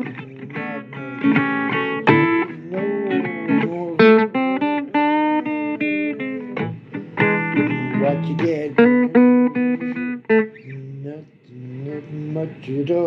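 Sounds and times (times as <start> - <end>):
blues guitar playing: 0.0 - 13.0.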